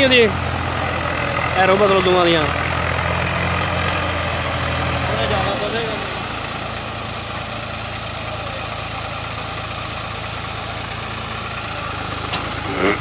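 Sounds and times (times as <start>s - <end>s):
tractor diesel engines idling: 0.0s - 13.0s.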